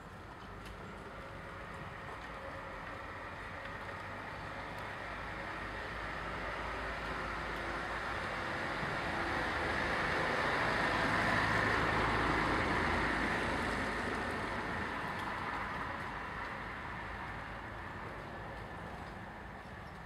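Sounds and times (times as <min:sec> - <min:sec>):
road vehicle passing: 0:00.4 - 0:20.0.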